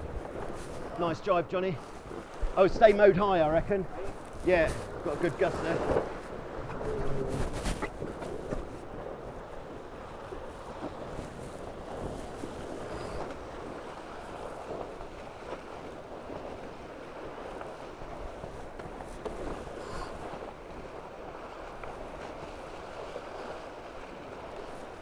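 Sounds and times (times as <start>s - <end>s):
water rushing past hulls: 0.0s - 25.0s
wind: 0.0s - 25.0s.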